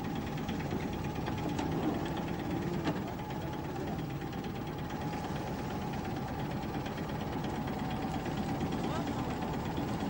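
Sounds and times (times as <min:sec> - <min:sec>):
marine engine running: 0:00.0 - 0:10.0.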